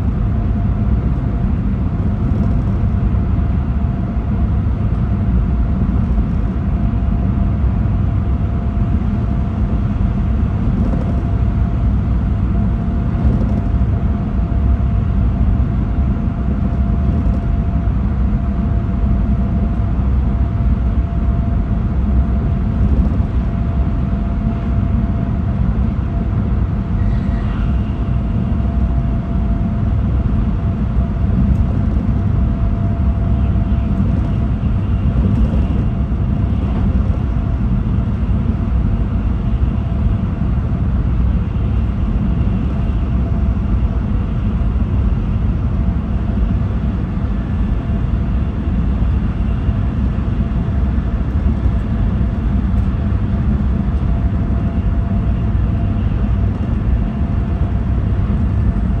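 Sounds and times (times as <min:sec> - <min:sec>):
faint steady whine: 0:00.0 - 0:59.0
train running gear rumble: 0:00.0 - 0:59.0.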